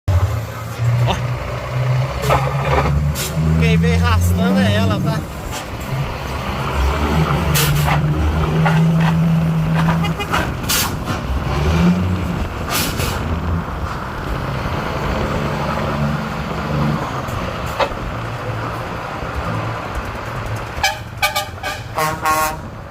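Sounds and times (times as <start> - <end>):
truck diesel engine running: 0.1 - 22.9.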